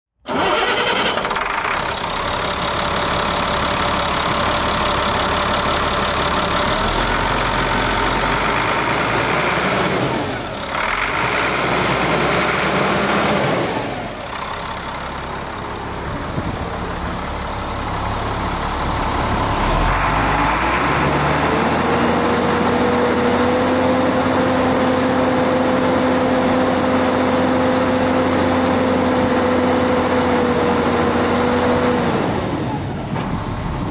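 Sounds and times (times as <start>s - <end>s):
diesel engine idling: 0.3s - 31.2s.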